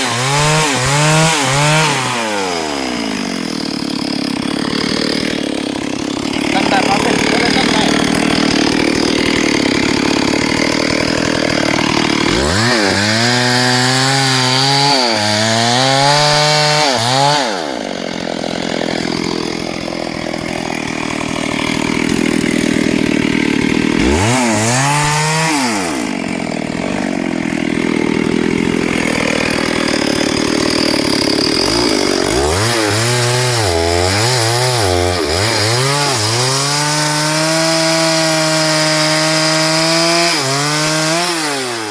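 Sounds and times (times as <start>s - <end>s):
chainsaw cutting hardwood: 0.0s - 41.9s.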